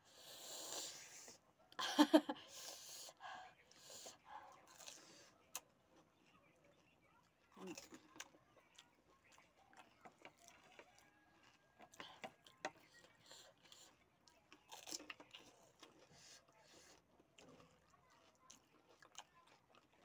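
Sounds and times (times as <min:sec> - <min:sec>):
quiet chewing: 0:00.0 - 0:20.0.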